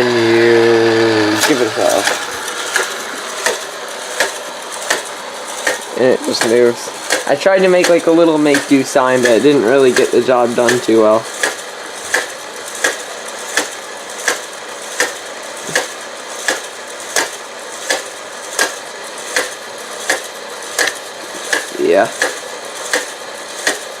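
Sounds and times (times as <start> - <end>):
motor whirring: 0.0 - 23.8.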